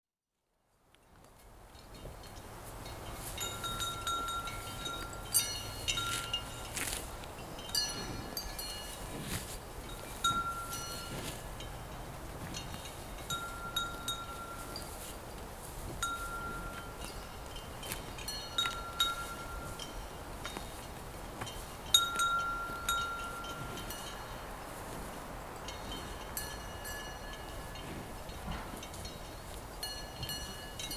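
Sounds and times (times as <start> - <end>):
cowbells clanking: 1.8 - 30.9.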